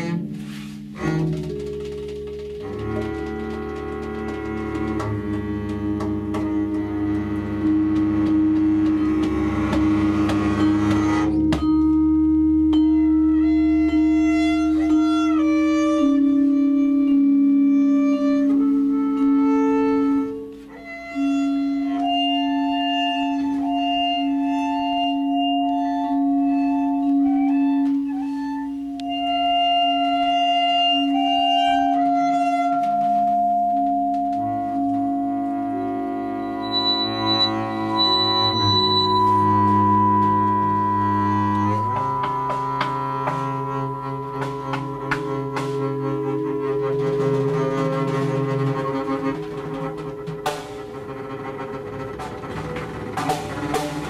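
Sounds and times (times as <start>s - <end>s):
instrumental group playing held notes: 0.0s - 54.0s.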